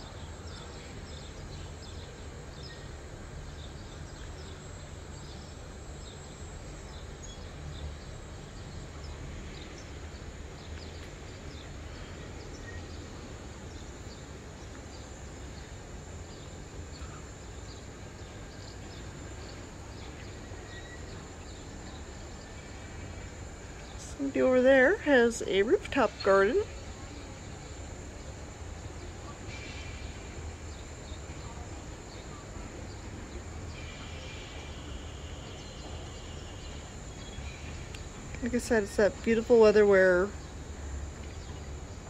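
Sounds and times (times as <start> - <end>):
low city hum: 0.0 - 42.0.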